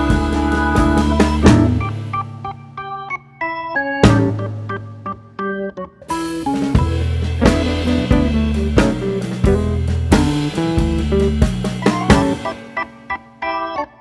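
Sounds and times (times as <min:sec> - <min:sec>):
band playing with guitar and drums: 0:00.0 - 0:03.3, 0:04.0 - 0:05.2, 0:06.1 - 0:13.6.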